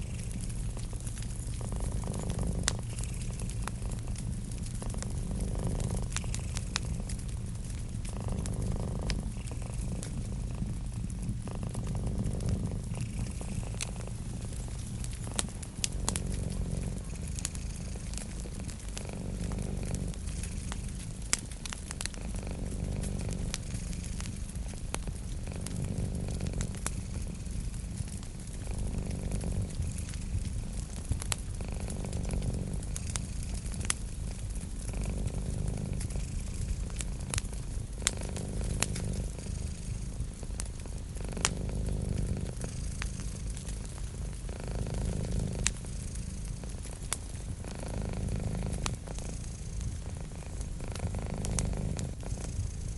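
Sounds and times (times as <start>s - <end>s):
cat purring: 0.0s - 52.9s
wood fire crackling: 0.0s - 52.9s.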